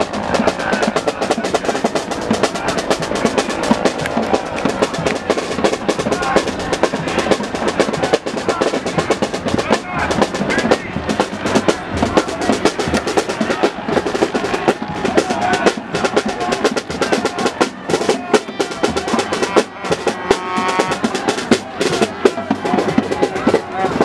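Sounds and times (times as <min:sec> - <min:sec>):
crowd voices: 0:00.0 - 0:24.0
rapid snare drum roll: 0:00.0 - 0:24.0.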